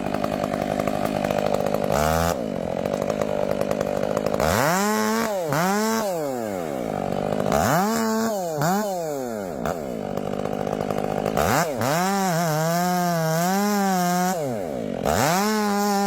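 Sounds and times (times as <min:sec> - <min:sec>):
saw engine revving: 0:00.0 - 0:16.0.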